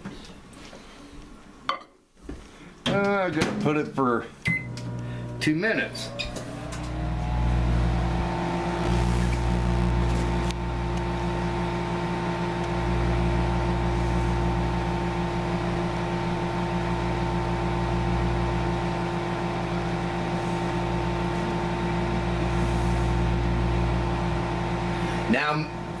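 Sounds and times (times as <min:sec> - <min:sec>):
microwave oven humming: 0:04.4 - 0:26.0.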